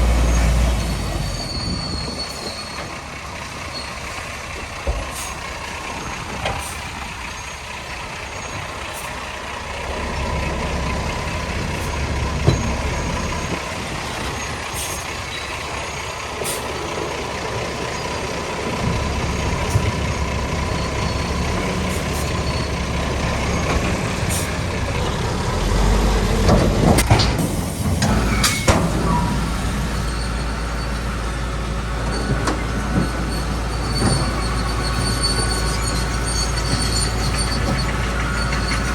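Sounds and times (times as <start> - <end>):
diesel machinery engine rumble: 0.0 - 38.9.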